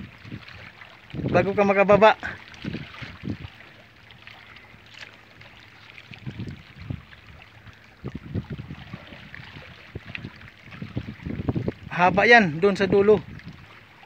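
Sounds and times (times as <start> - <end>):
wind rumble on microphone: 0.0 - 3.8, 5.8 - 14.0
seawater lapping on concrete: 0.0 - 14.0.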